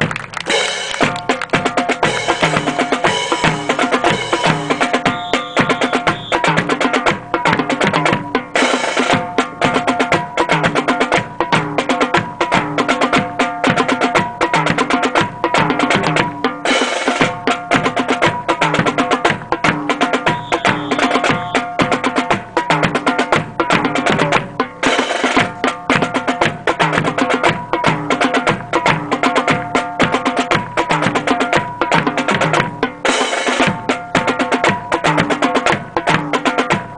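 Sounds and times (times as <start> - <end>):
march music with drum beat: 0.0 - 36.9.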